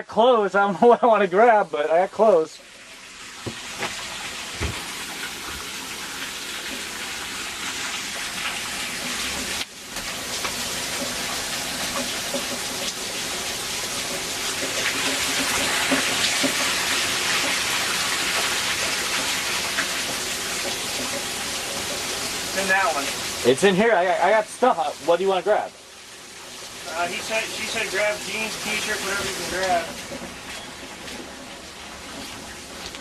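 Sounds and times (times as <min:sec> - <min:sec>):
water rushing: 0:00.0 - 0:33.0.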